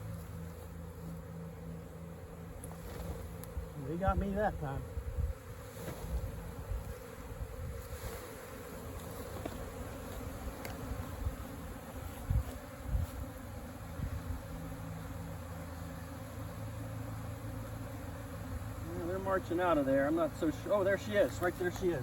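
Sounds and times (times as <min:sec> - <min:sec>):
bee swarm buzzing: 0:00.0 - 0:22.0.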